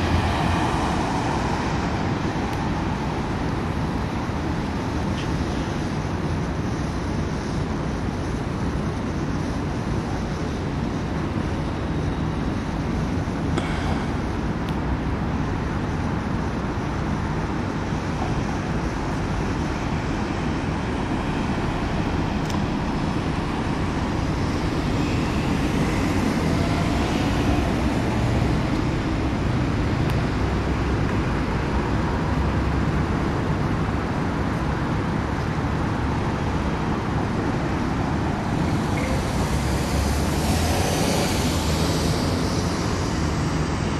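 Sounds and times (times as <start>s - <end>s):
city road traffic: 0.0s - 43.9s.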